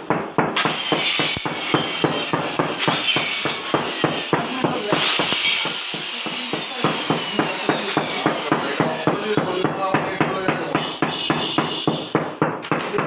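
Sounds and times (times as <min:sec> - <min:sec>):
hammer tapping tiles: 0:00.0 - 0:13.0.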